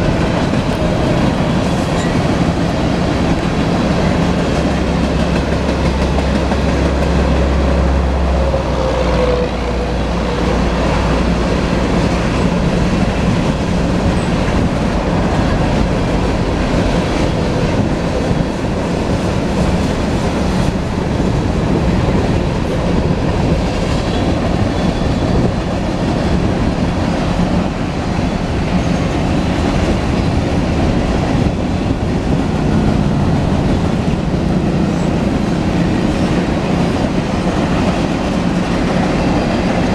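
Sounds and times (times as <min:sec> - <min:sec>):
freight train wheels rumbling over rails: 0:00.0 - 0:39.9.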